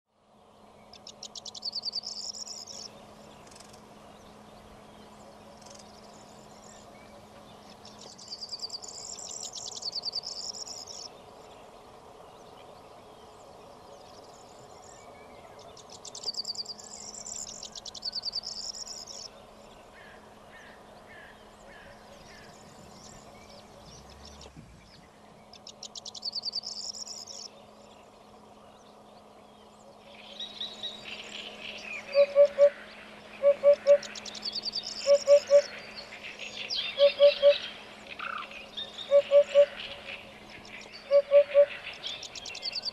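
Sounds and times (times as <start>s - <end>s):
steady low hum: 0.1s - 42.9s
songbird trilling: 0.8s - 13.0s, 13.8s - 42.9s.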